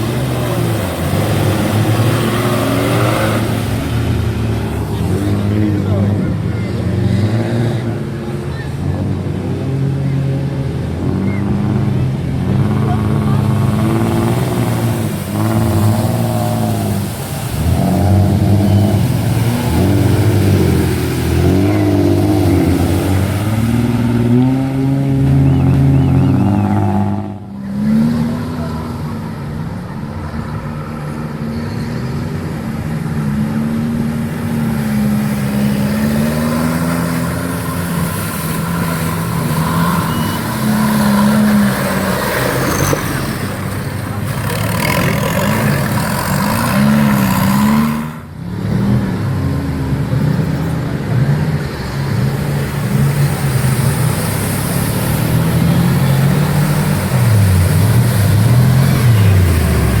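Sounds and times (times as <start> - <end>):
off-road engines revving: 0.0 - 60.0.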